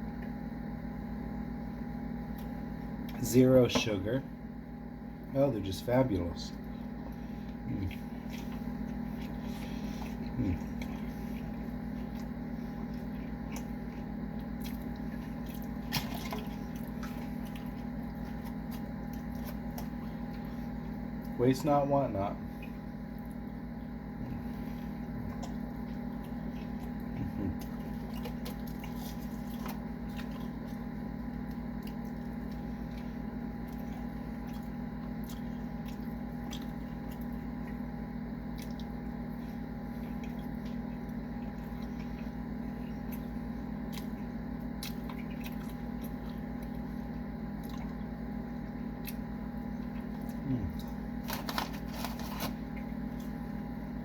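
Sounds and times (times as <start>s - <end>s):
low electrical hum: 0.0s - 54.0s
person chewing food: 6.6s - 21.4s, 22.5s - 53.9s.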